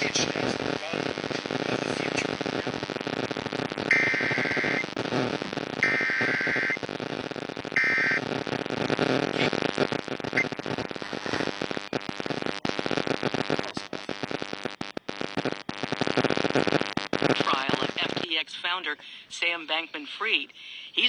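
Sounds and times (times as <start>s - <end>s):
harsh buzzing data bursts: 0.0s - 18.4s
noisy radio hiss: 0.0s - 21.0s.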